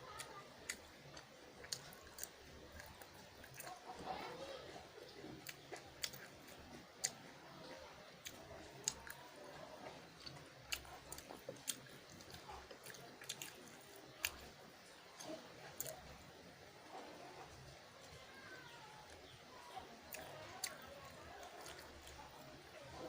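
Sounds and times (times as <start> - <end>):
chewing noodles: 0.1 - 23.0.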